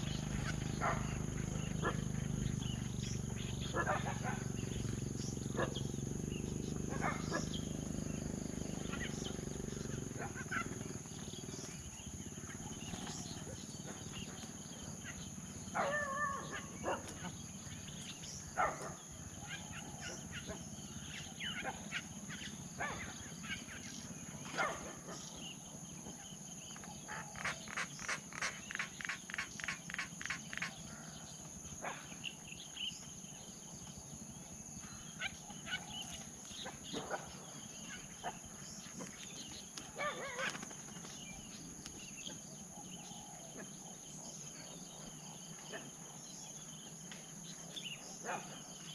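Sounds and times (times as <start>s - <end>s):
insect drone: 0.0s - 48.9s.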